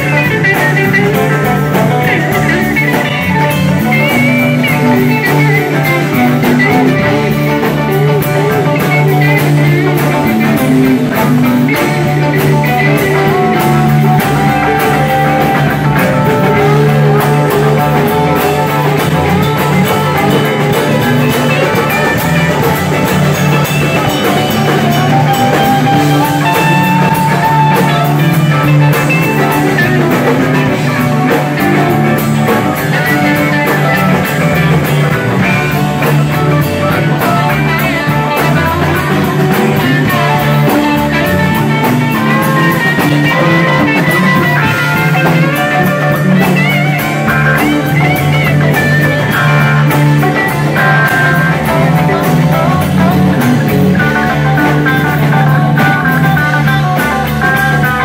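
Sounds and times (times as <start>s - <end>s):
bass guitar: 0.0s - 58.0s
drum kits: 0.0s - 58.0s
electric guitars: 0.0s - 58.0s.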